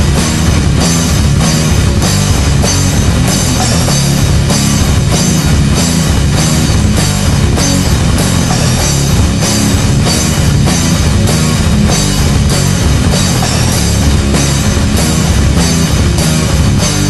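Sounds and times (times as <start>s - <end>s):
metal band playing: 0.0s - 17.0s.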